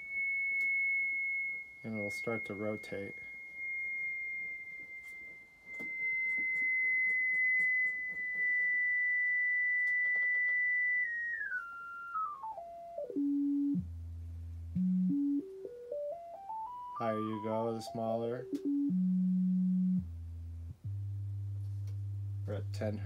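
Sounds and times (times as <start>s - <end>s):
sine test tone stepping in pitch: 0.0s - 23.0s.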